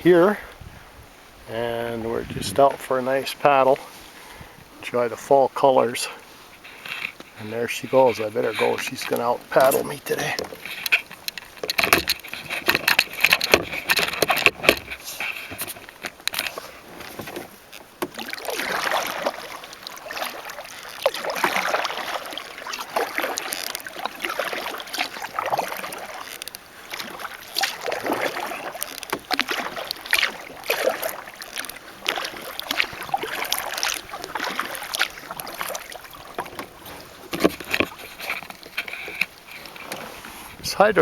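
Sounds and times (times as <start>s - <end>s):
paddle splashing in water: 1.3s - 41.0s.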